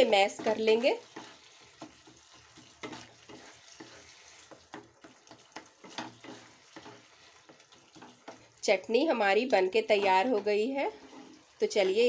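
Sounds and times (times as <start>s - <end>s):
spatula squelching chutney: 0.0s - 12.0s.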